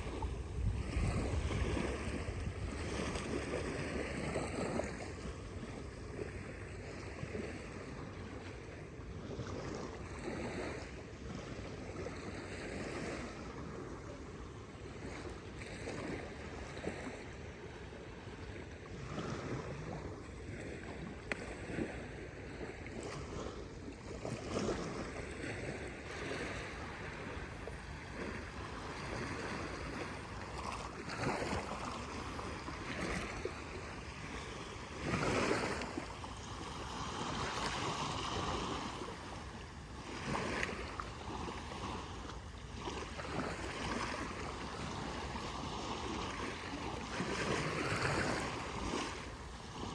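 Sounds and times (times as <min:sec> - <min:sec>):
waves washing onto beach: 0:00.0 - 0:49.9.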